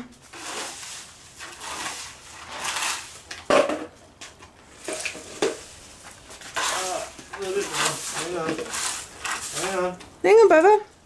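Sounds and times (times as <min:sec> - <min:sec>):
broom and dustpan scraping bricks: 0:00.1 - 0:10.5
dry leaves rustling: 0:00.2 - 0:03.6, 0:04.3 - 0:10.7.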